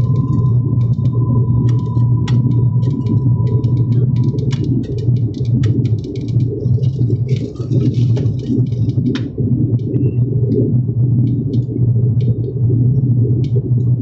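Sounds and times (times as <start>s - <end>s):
faint clicks: 0.0s - 12.6s
propeller engine drone: 0.0s - 14.0s.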